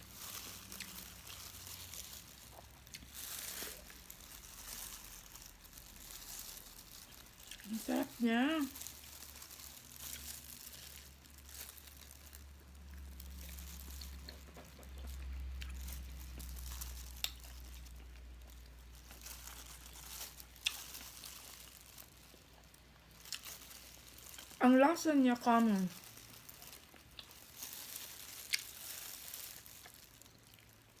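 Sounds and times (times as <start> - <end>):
person chewing and crunching food: 0.0 - 31.0.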